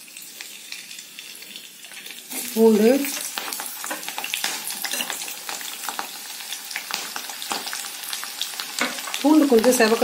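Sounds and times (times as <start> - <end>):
garlic sizzling in hot oil: 0.0 - 10.0.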